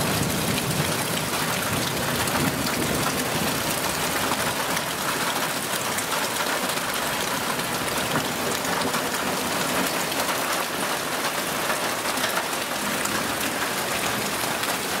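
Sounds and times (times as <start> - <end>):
heavy rain on trees and ground: 0.0 - 15.0
close raindrop ticks: 0.1 - 15.0.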